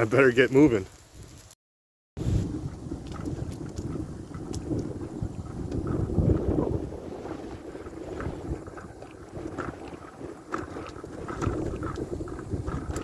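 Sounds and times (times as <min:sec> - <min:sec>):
wind buffeting microphone: 0:02.2 - 0:13.0.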